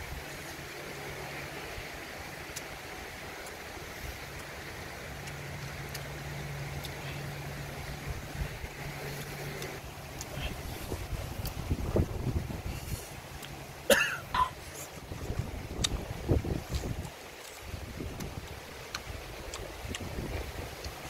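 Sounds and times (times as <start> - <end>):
low steady hum: 0.0 - 21.0
stream running over stones: 0.0 - 21.0.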